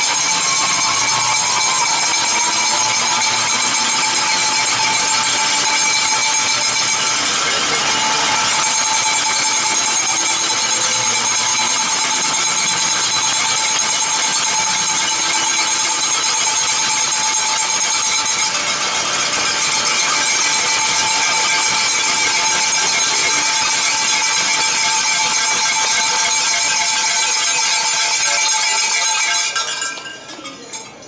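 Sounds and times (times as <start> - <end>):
crowd applauding and cheering: 0.0 - 30.2.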